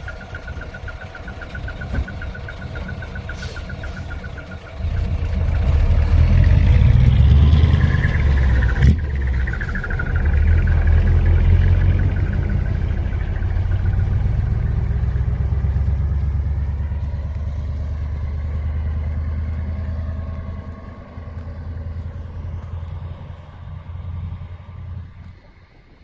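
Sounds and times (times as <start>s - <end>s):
truck diesel engine exhaust rumble: 0.0s - 26.0s.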